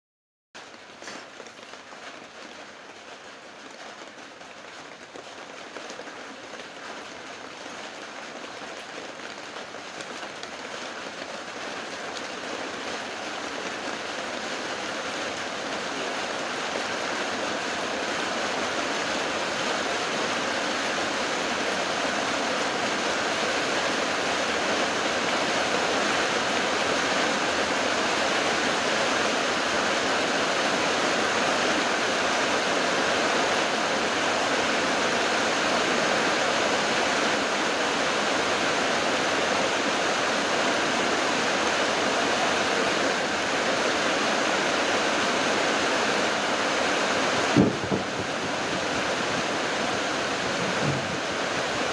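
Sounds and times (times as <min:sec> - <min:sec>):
heavy rain falling: 0:00.6 - 0:51.9.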